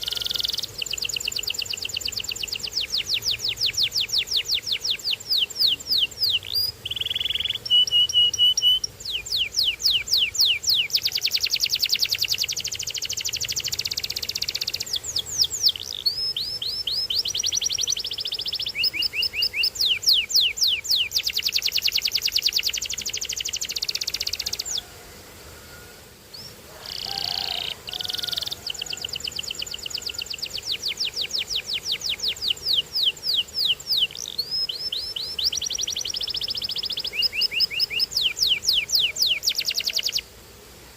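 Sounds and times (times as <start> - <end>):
canary singing: 0.0 - 25.0, 25.6 - 40.3.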